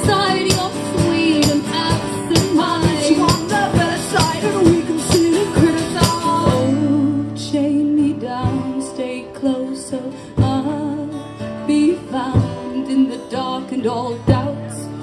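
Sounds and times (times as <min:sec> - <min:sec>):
rhythmic guitar strokes: 0:00.0 - 0:15.0.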